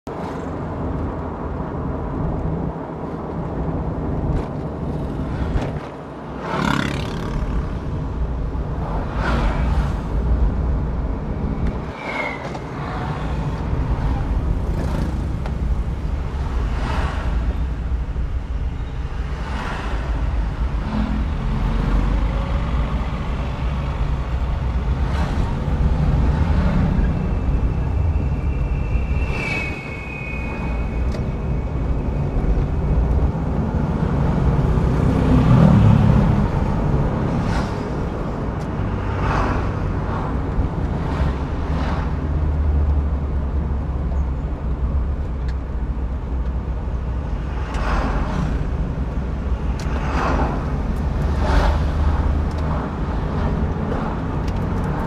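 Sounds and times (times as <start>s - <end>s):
car engine and tyre rumble: 0.0s - 55.0s
passing vehicles swishing by: 0.1s - 55.0s.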